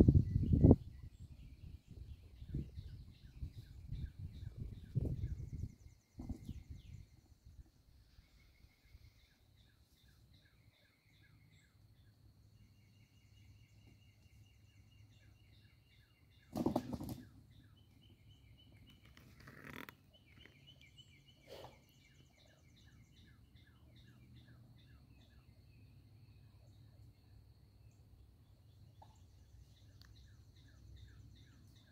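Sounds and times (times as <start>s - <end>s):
birds chirping trills: 0.0s - 31.9s.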